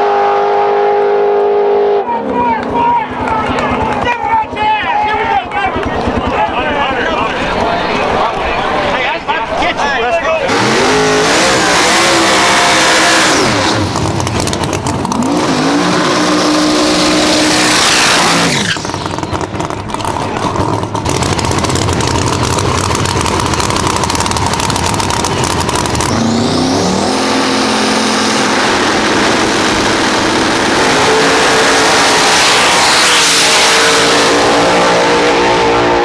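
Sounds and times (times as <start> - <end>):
race car engines revving: 0.0 - 36.0.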